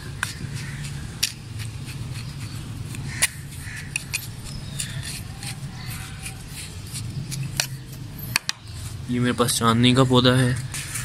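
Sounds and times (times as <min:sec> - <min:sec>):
hand tool scraping through soil: 0:00.0 - 0:09.0
steady low hum: 0:00.0 - 0:11.0.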